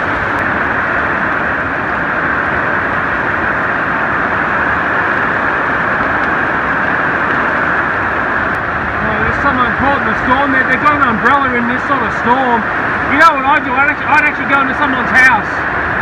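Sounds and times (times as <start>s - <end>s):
heavy rain on a metal roof: 0.0s - 16.0s.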